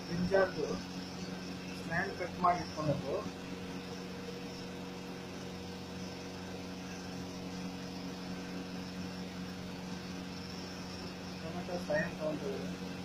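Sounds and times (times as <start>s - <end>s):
steady low electrical hum: 0.0s - 13.0s.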